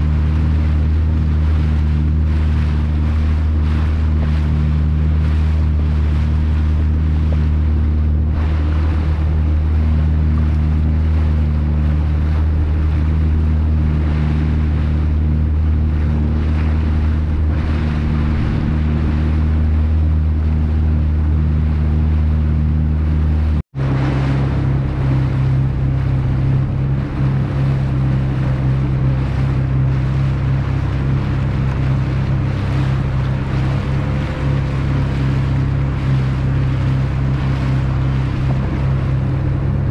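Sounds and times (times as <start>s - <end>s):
motorboat engine humming: 0.0s - 39.9s
wind and water rushing: 0.0s - 39.9s.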